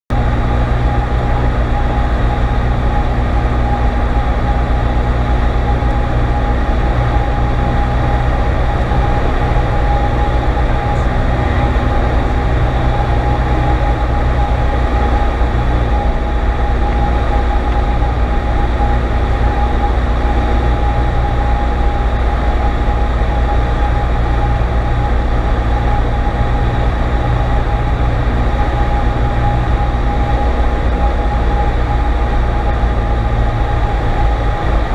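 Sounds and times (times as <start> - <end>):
airplane engine drone: 0.1 - 34.9.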